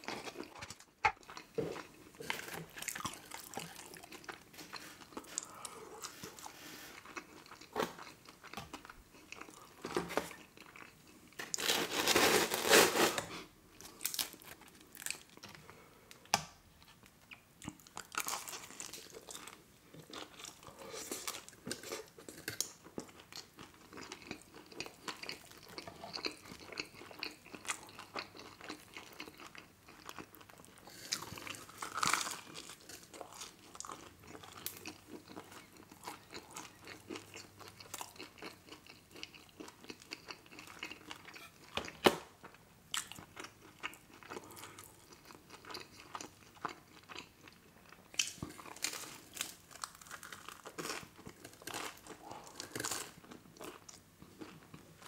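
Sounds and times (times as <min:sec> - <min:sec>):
chewing crisp pizza crust: 0:00.0 - 0:12.8, 0:16.8 - 0:55.0.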